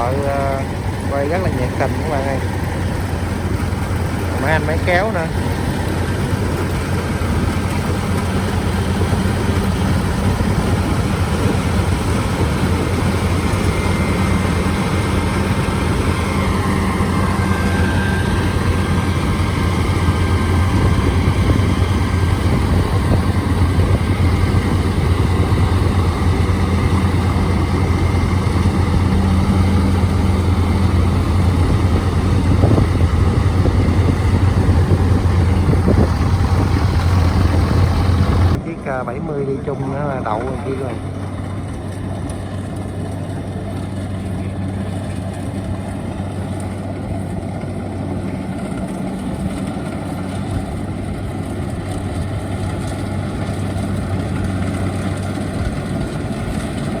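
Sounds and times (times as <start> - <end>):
diesel engine running: 0.0 - 57.0
faint machine whine: 0.0 - 57.0.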